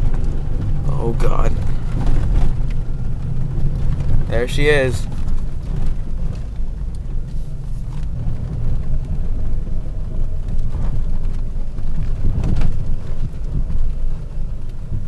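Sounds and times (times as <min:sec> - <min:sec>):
vehicle driving rumble: 0:00.0 - 0:15.0.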